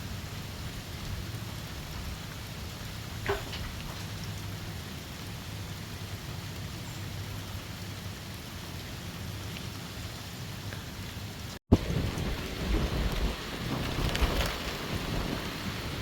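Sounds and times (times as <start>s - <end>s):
windstorm with rain: 0.0s - 16.0s.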